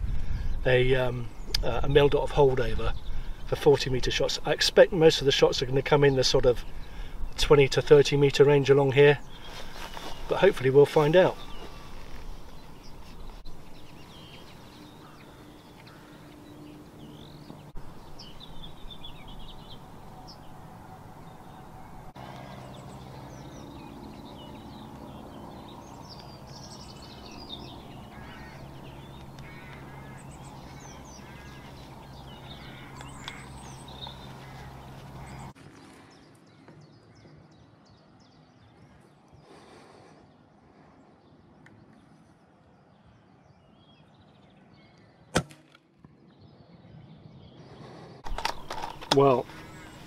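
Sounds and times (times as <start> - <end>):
small birds singing: 0.0 - 45.4, 46.0 - 50.0.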